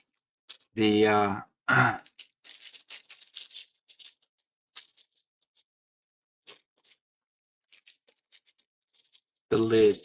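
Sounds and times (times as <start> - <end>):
small parts clicking and rustling: 0.0 - 1.0, 2.0 - 5.7, 6.4 - 10.0.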